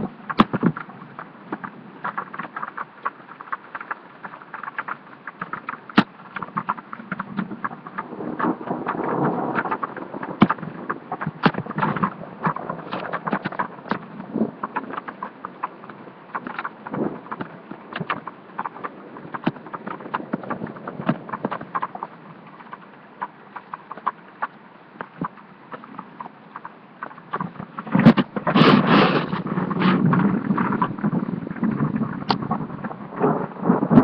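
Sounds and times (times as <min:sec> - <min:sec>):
raindrops tapping near microphone: 0:00.0 - 0:34.0
steady hiss of rain: 0:00.0 - 0:34.0.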